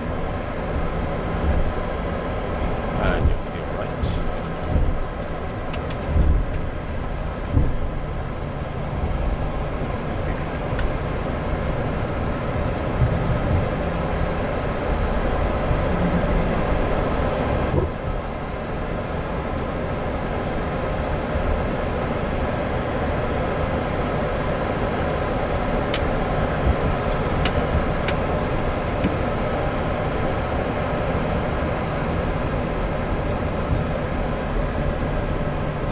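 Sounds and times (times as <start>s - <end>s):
air conditioning hum: 0.0s - 35.9s
jet engines idling: 0.0s - 35.9s.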